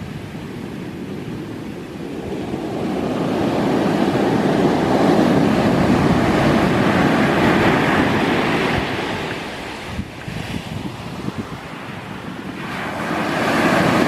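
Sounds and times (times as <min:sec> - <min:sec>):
ocean wave breaking on shore: 0:00.0 - 0:14.0.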